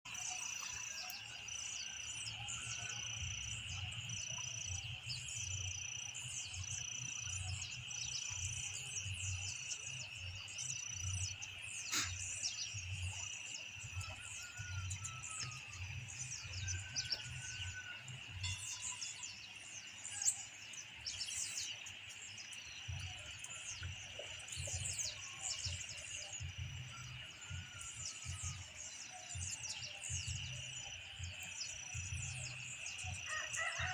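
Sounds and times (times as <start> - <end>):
insects buzzing drone: 0.1 - 33.9.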